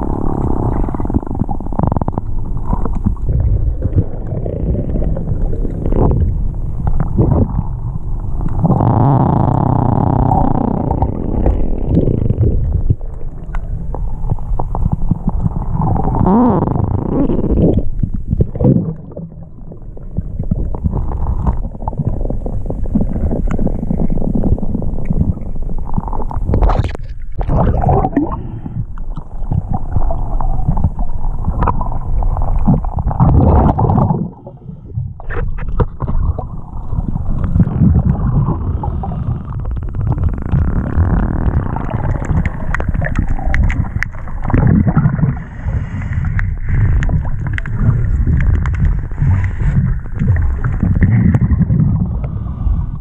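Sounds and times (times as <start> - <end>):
muffled underwater rumbling: 0.0 - 53.0.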